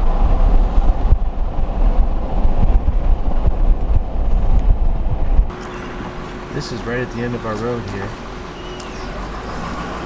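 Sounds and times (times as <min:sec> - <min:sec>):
vehicle noise: 0:00.0 - 0:10.0
wind buffeting microphone: 0:00.0 - 0:10.0.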